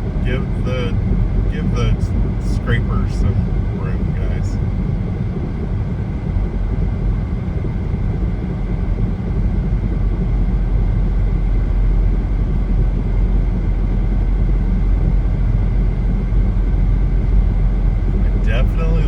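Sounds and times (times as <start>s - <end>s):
car driving at highway speed: 0.0s - 19.0s.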